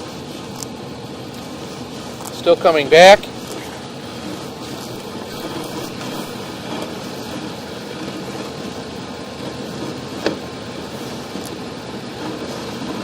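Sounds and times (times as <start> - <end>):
steady running engine noise: 0.0 - 13.0.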